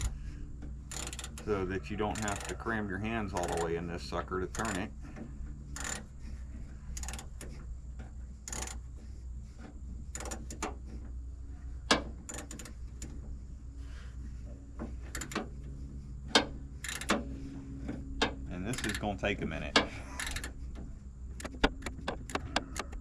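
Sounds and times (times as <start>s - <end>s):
hand tools clicking and scraping: 0.0s - 23.0s
steady low hum: 0.0s - 23.0s.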